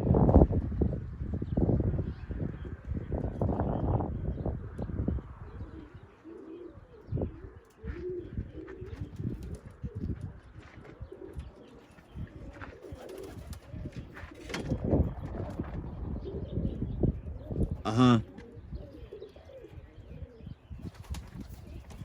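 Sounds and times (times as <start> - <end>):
wind buffeting microphone: 0.0 - 22.0
pigeons cooing: 1.5 - 22.0.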